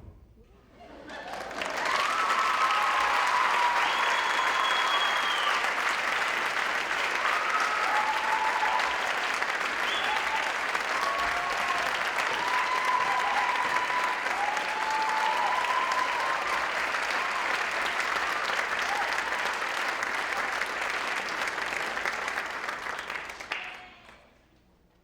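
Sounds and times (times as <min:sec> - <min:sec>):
audience applauding: 0:01.0 - 0:24.2.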